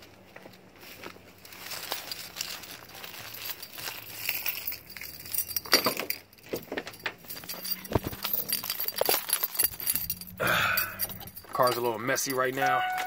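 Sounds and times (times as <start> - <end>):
keys jangling: 1.9 - 13.0.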